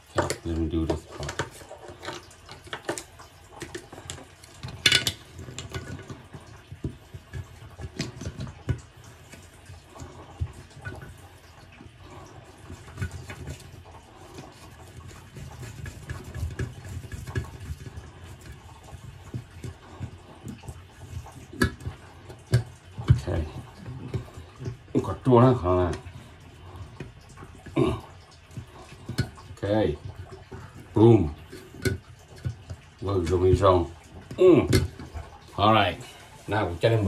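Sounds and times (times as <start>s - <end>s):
metal clicks and scrapes on drain: 0.0s - 37.0s.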